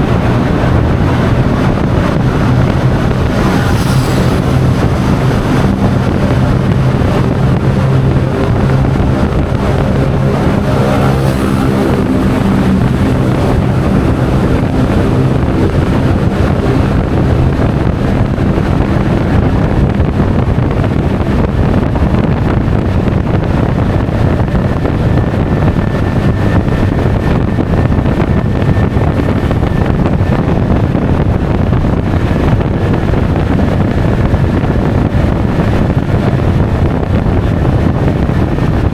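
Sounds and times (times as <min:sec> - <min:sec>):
scooter engine running: 0:00.0 - 0:38.9
wind noise on microphone: 0:00.0 - 0:38.9.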